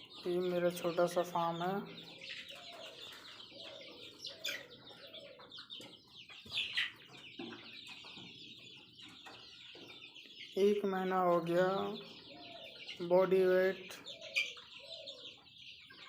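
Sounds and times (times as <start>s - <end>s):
chickens cheeping and clucking: 0.0s - 16.0s.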